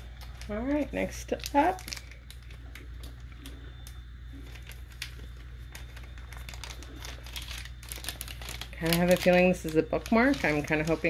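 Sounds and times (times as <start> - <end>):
low hum: 0.0 - 11.0
wrapping rustling: 0.0 - 11.0.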